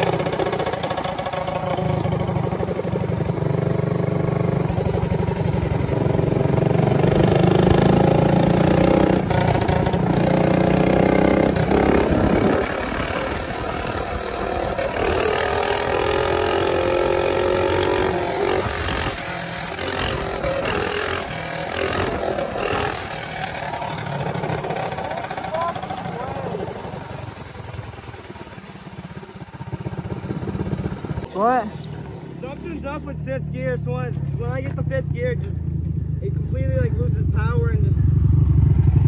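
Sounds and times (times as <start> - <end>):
small motorbike engine running: 0.0 - 32.1.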